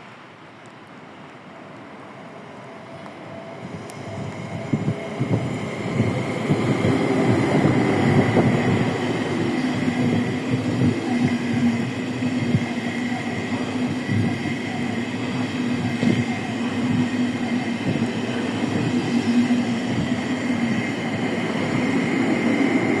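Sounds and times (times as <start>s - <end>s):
train hum and whine: 0.0s - 23.0s
train wheels clattering on rails: 3.0s - 23.0s.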